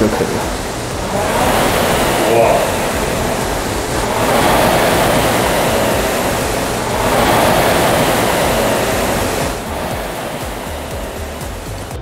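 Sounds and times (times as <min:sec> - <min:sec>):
rowing machine flywheel whooshing: 0:00.0 - 0:12.0.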